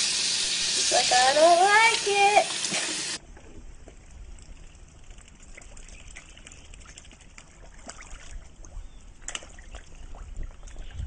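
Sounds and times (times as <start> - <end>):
pond water splashing and dripping: 0.0 - 11.0.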